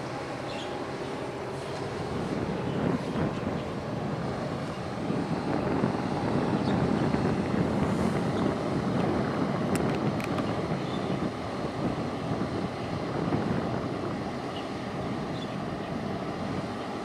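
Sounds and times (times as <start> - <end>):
ship engine rumble: 0.0 - 17.0
wind buffeting microphone: 0.0 - 17.0.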